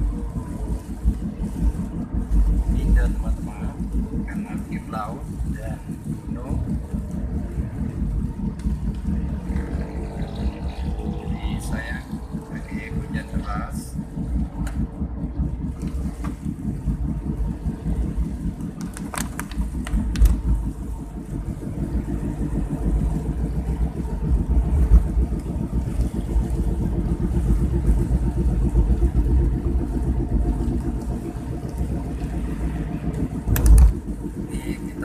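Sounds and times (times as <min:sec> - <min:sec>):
car engine and tyres rumble: 0:00.0 - 0:35.0.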